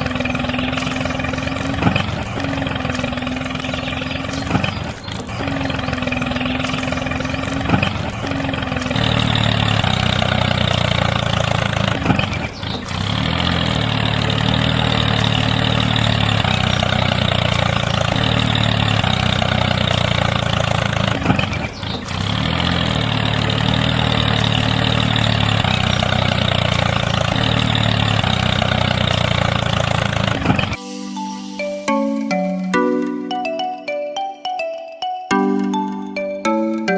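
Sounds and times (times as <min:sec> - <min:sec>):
engine running: 0:00.0 - 0:34.0, 0:35.3 - 0:36.9.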